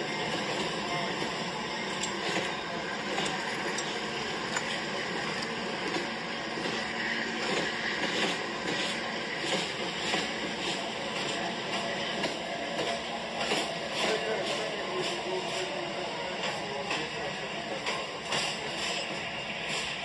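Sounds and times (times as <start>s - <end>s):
train rolling: 0.0s - 20.0s.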